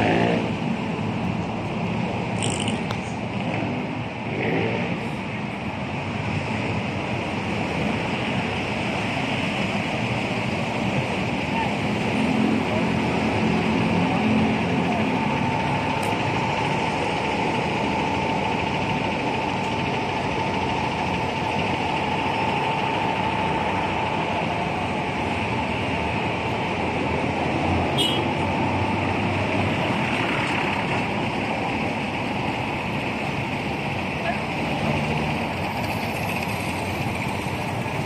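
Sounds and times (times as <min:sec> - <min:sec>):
buses and traffic passing: 0:00.0 - 0:38.0.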